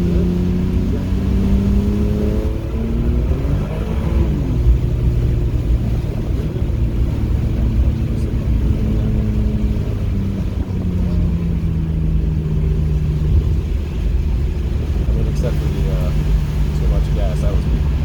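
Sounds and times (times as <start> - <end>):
car rumbling on wet track: 0.0 - 18.0
race car engine: 0.0 - 18.0.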